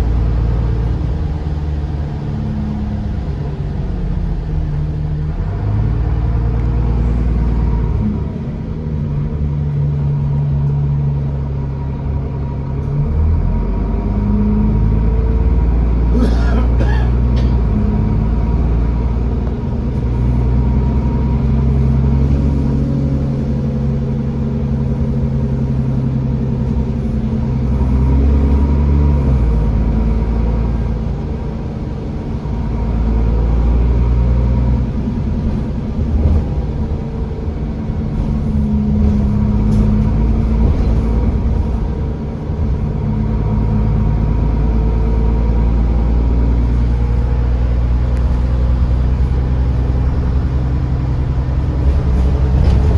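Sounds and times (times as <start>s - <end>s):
diesel bus engine: 0.0s - 52.9s.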